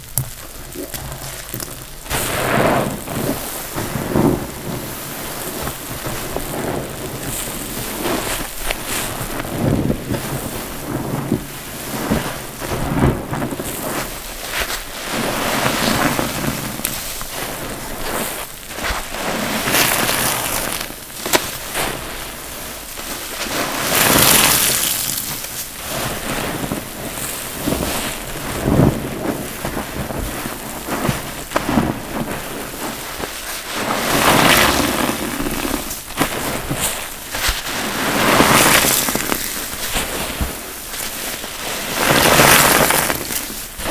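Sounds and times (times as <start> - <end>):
sharp crackles: 0.0 - 43.9
wet sponges squelching: 0.0 - 43.9.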